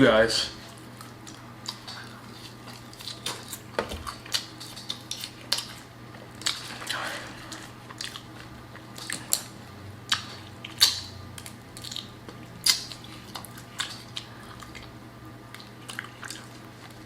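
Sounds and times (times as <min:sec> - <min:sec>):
person biting and chewing: 0:00.9 - 0:17.0.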